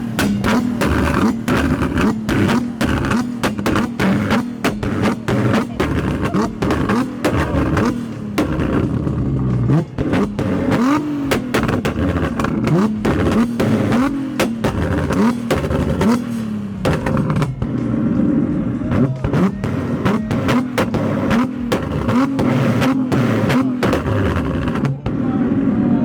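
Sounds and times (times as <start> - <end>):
exhaust pops and crackles: 0.0 - 25.8
car engine revving: 0.0 - 26.0.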